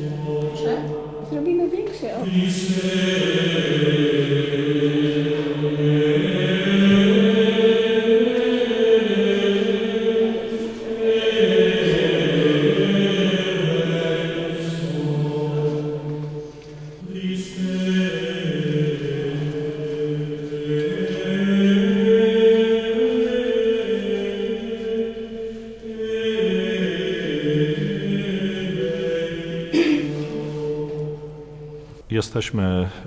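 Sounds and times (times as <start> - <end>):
choir chanting in long notes: 0.0 - 1.4, 2.2 - 32.0.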